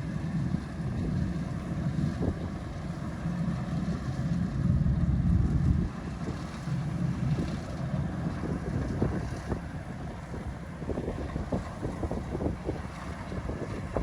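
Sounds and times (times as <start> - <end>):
wind noise on microphone: 0.1 - 14.0.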